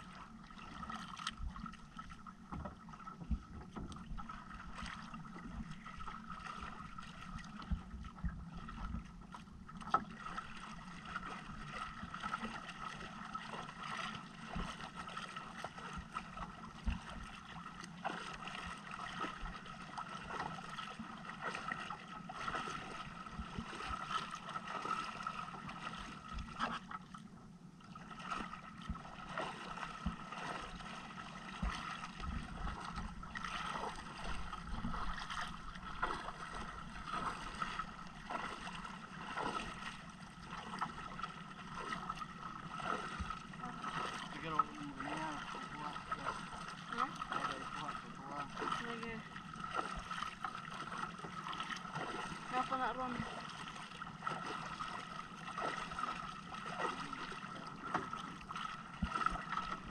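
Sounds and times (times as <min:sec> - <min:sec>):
faint hum: 0:00.0 - 0:59.9
water lapping against boat hull: 0:00.0 - 0:59.9.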